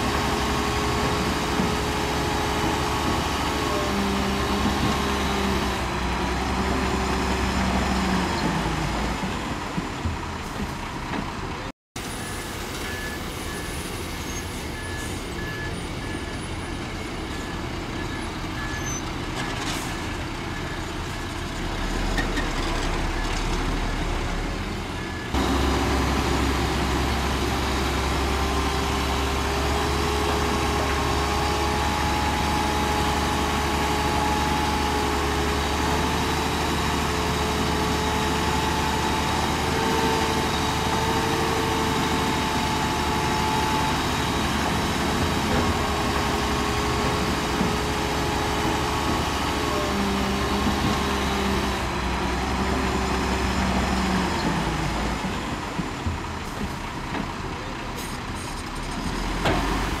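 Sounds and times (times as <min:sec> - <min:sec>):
diesel machinery rumble: 0:00.0 - 1:00.0.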